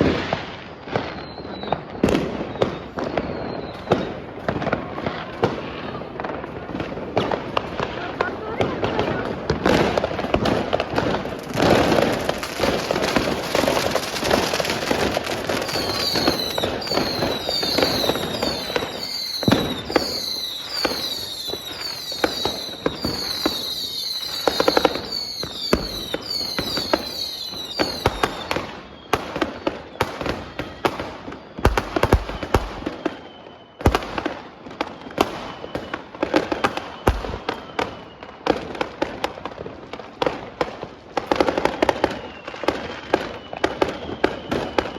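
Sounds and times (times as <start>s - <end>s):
firecracker bangs: 0.0s - 33.2s, 33.8s - 38.8s
whistling fireworks: 0.0s - 44.9s.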